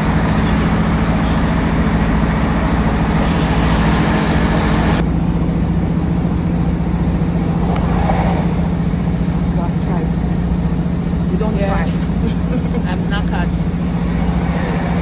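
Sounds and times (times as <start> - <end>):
low engine hum: 0.0 - 15.0
road noise rush: 0.0 - 15.0.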